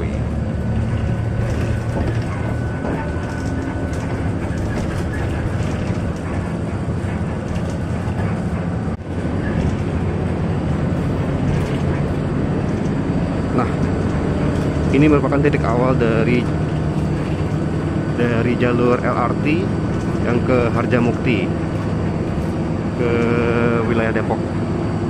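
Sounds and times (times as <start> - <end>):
bus engine drone: 0.0 - 25.0
tyre and road rumble: 0.0 - 25.0.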